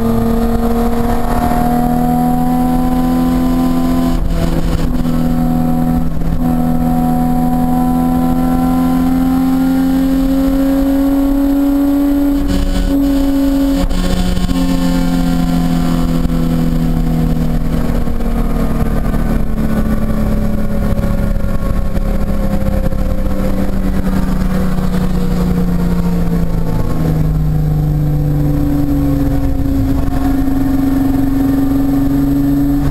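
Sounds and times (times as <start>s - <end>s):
race car engine: 0.0s - 32.9s
road and wind rumble: 0.0s - 32.9s.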